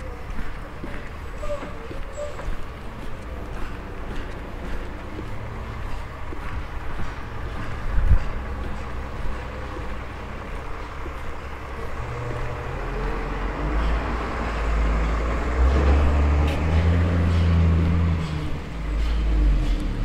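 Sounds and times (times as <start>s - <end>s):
vehicle passing with engine hum: 0.0s - 20.0s.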